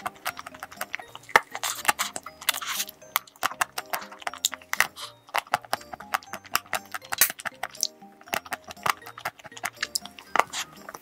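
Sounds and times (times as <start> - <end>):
close chewing and mouth sounds: 0.0 - 11.0
soft background music: 0.0 - 11.0.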